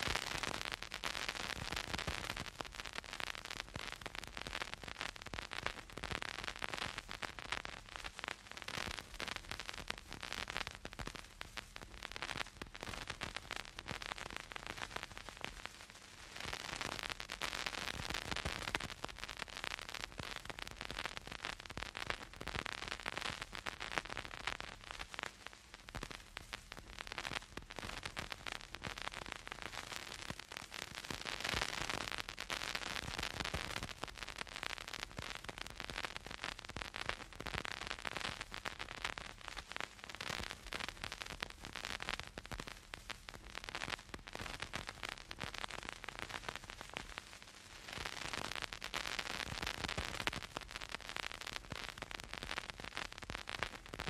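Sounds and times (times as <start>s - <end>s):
soft hiss: 0.0s - 54.0s
vinyl crackle and pops: 0.0s - 54.0s.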